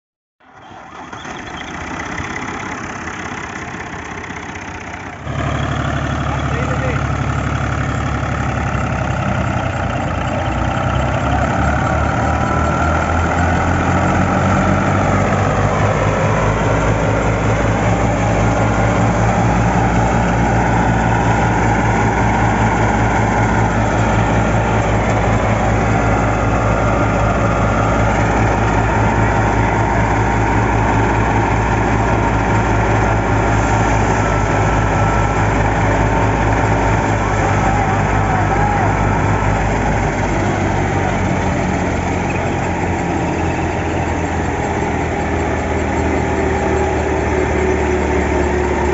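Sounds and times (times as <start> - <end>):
diesel tractor engine under load: 0.4 - 48.9
threshing drum whirring: 6.0 - 48.9.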